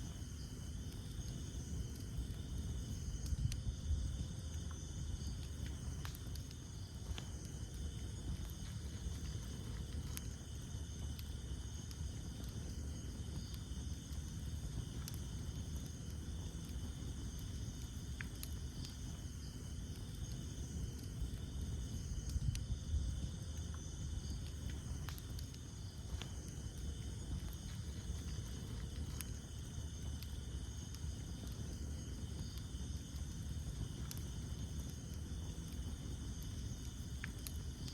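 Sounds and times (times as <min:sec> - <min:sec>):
low rumble of flames: 0:00.0 - 0:37.9
night insects chorus: 0:00.0 - 0:37.9
wood crackling and popping: 0:00.0 - 0:37.9.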